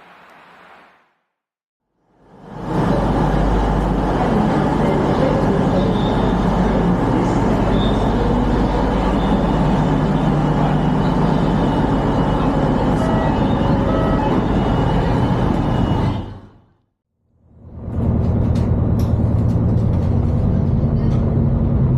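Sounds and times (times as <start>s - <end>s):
diesel train rumble and hum: 2.1s - 16.8s, 17.4s - 21.9s.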